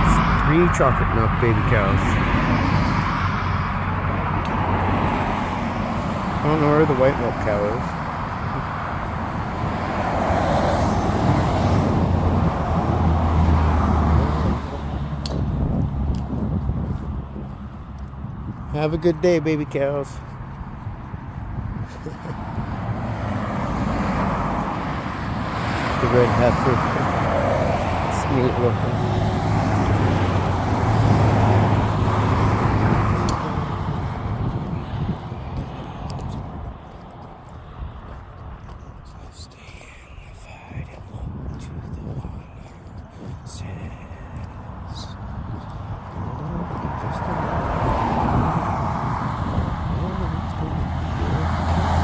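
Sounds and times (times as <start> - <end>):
vehicle passing by: 0.0 - 52.0.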